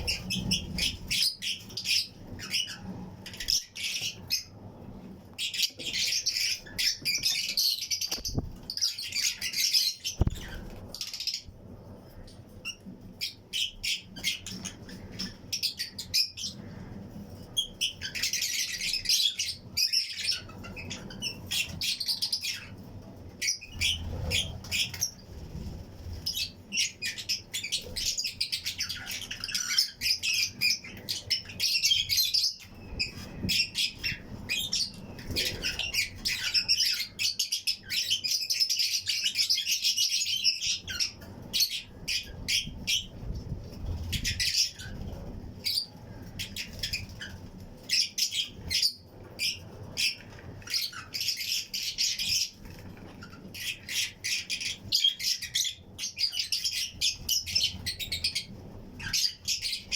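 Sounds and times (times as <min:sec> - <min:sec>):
lovebirds chirping and squawking: 0:00.0 - 0:59.9.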